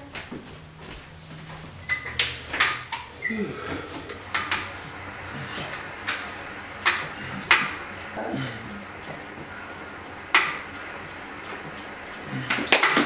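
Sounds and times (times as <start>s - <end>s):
exercise bike clacking: 1.5s - 13.0s.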